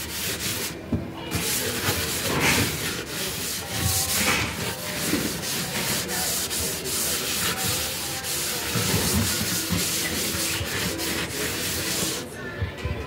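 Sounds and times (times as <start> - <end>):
sponge scrubbing cooker top: 0.0 - 12.3.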